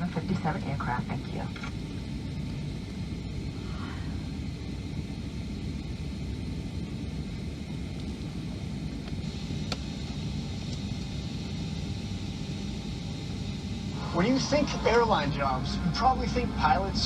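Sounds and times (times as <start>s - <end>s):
aircraft cabin rumble: 0.0s - 17.0s
faint high whine: 0.0s - 17.0s.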